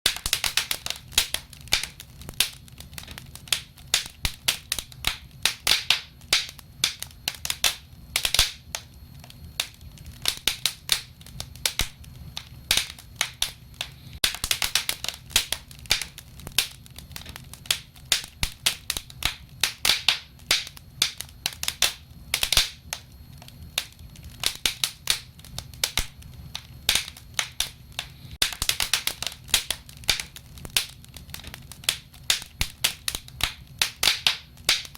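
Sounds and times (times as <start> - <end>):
wood fire crackling: 0.1 - 34.9.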